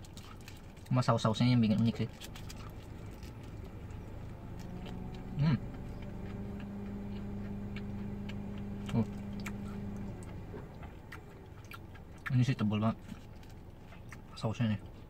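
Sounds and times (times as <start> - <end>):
low hum: 0.0 - 15.0
man chewing wetly: 0.0 - 15.0.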